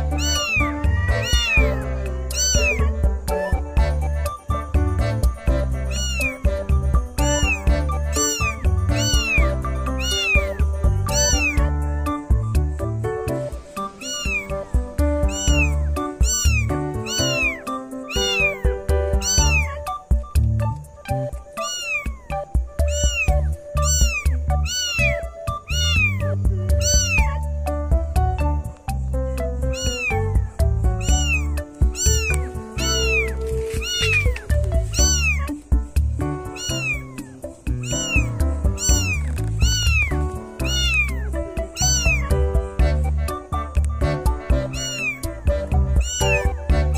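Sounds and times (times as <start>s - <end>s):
cat meowing: 0.0s - 4.4s, 5.4s - 12.4s, 13.7s - 20.1s, 21.2s - 27.6s, 29.7s - 35.7s, 36.4s - 43.8s, 44.4s - 46.9s
music with bass beat: 0.0s - 46.9s.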